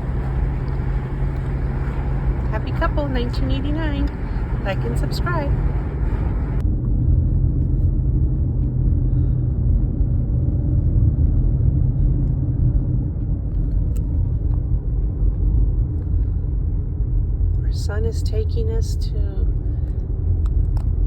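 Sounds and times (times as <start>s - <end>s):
car driving rumble inside cabin: 0.0s - 21.0s.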